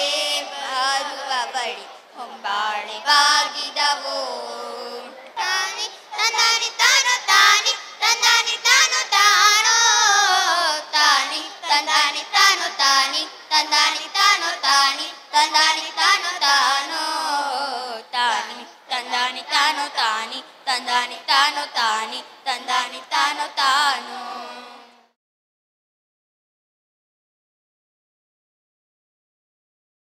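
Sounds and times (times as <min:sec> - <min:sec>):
children singing folk song: 0:00.0 - 0:25.2.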